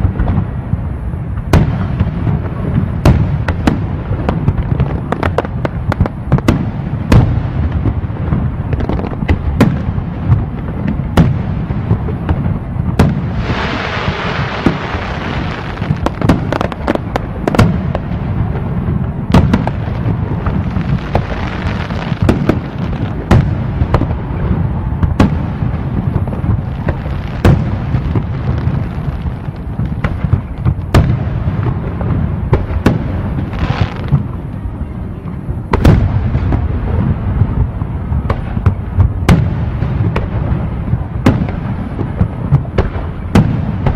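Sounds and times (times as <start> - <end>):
fireworks bursts and bangs: 0.0 - 43.9
fireworks crackling hiss: 0.0 - 43.9.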